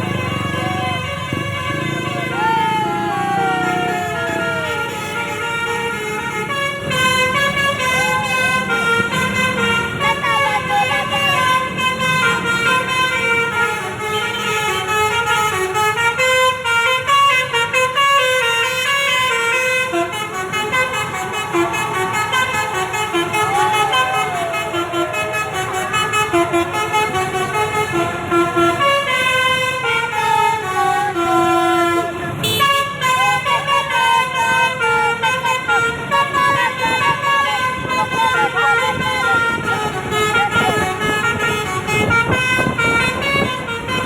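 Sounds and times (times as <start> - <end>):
musical air horns playing a tune: 0.0 - 44.0.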